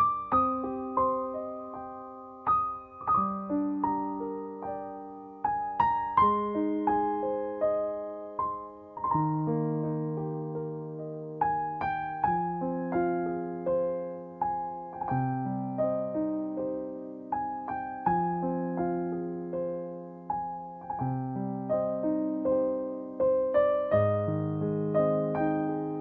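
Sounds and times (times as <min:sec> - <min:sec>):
gentle solo piano: 0:00.0 - 0:26.0.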